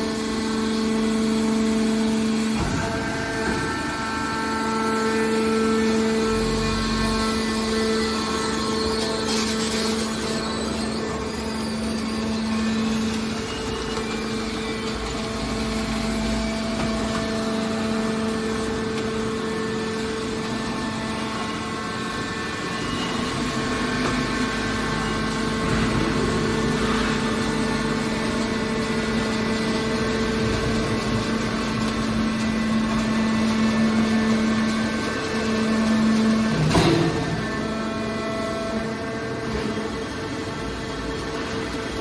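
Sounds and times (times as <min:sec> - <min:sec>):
scrap baler machine humming: 0:00.0 - 0:42.0.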